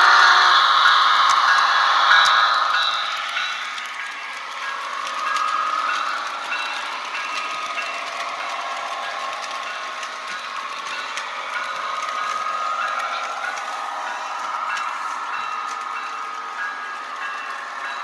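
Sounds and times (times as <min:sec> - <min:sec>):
model train motor whine: 0:00.0 - 0:18.0
wheels rattling over rails: 0:00.0 - 0:18.0.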